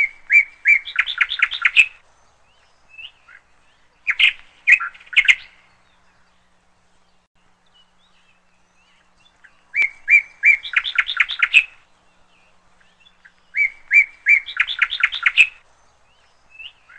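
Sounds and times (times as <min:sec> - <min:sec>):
songbird singing: 0:00.0 - 0:16.9.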